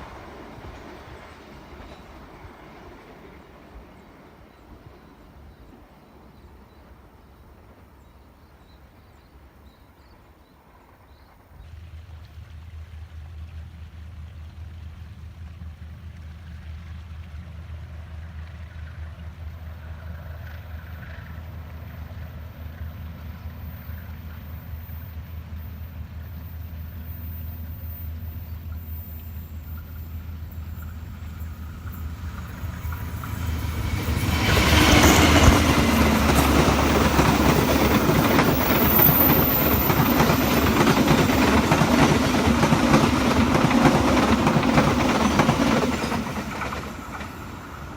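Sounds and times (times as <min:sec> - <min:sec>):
train rumbling by: 0:00.0 - 0:47.9.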